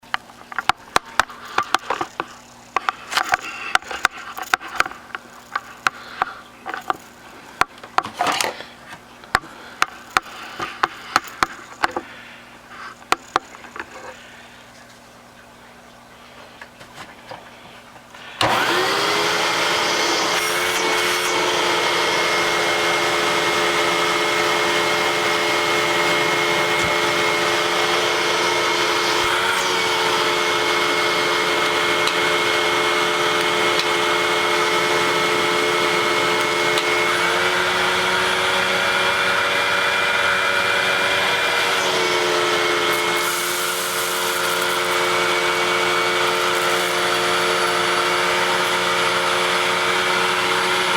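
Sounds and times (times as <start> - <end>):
vacuum cleaner motor whine: 0.0 - 14.7, 16.0 - 50.9.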